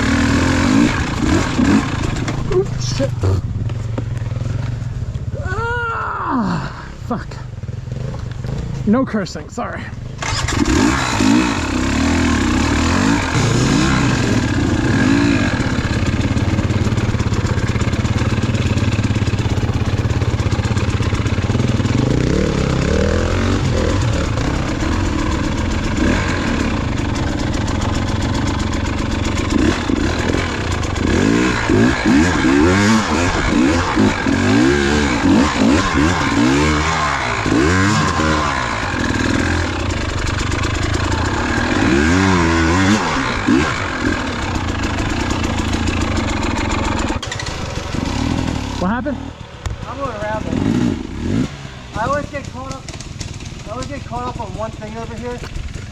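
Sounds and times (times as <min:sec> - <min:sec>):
dirt bike engine revving: 0:00.0 - 0:05.0, 0:07.6 - 0:09.2, 0:10.1 - 0:55.9.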